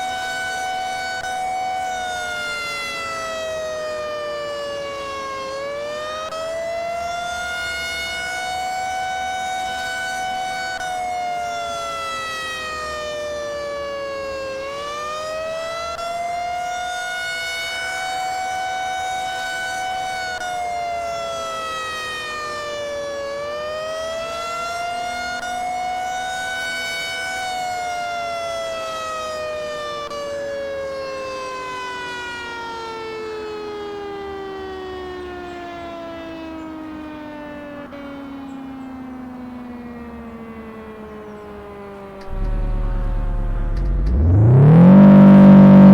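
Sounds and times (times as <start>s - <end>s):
warning siren wavering: 0.0s - 45.9s.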